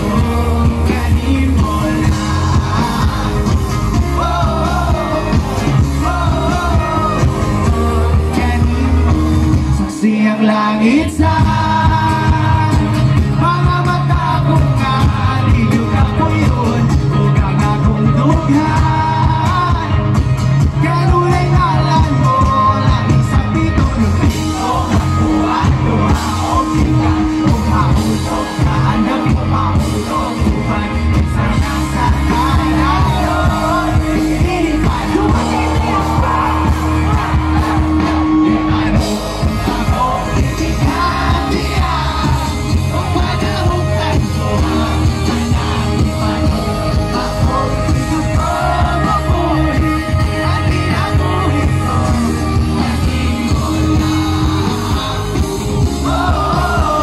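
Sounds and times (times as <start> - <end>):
crowd yelling along: 0.0 - 57.0
lead vocals singing: 0.0 - 57.0
live pop band through pa: 0.0 - 57.0.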